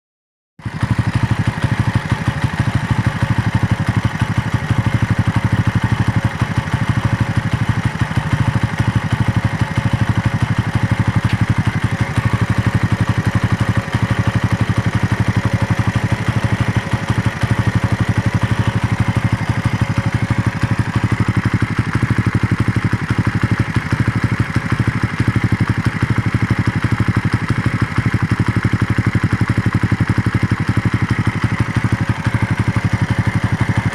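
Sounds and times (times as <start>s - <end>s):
motorcycle engine idling: 0.6s - 33.9s.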